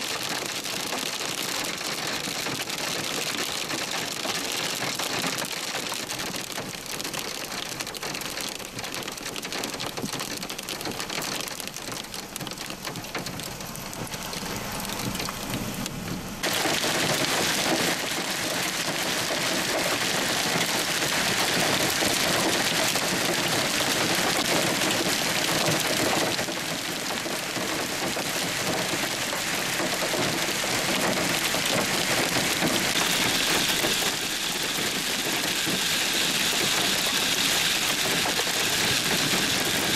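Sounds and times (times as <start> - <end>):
hail and heavy rain: 0.0 - 39.9.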